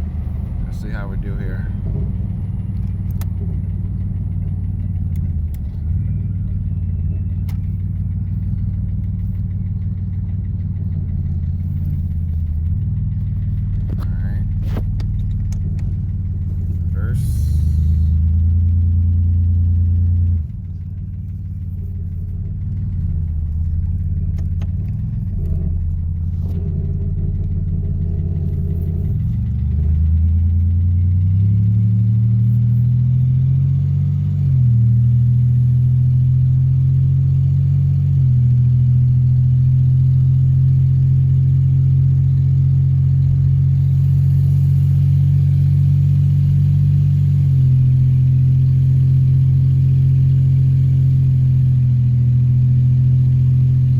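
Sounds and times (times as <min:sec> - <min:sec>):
loud diesel engine driving: 0:00.0 - 0:53.9.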